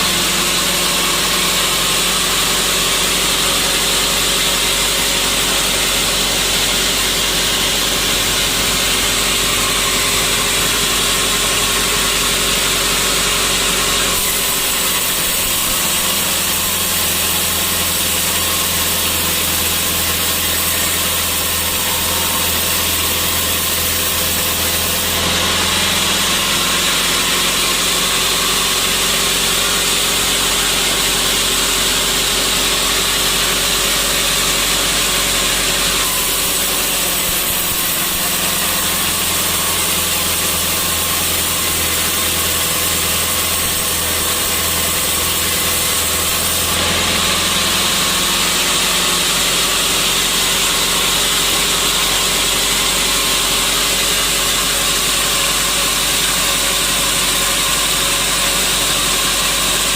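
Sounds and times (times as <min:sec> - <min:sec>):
high hiss of saw: 0:00.0 - 0:59.9
saw motor hum: 0:00.0 - 0:59.9.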